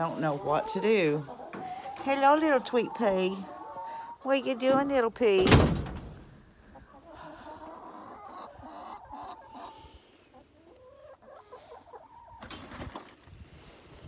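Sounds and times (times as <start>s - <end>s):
chickens clucking: 0.0s - 5.4s, 6.0s - 13.4s.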